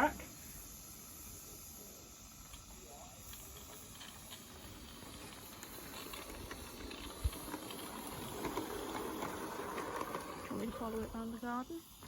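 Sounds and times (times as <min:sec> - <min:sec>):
model steam locomotive hissing: 0:00.0 - 0:12.0.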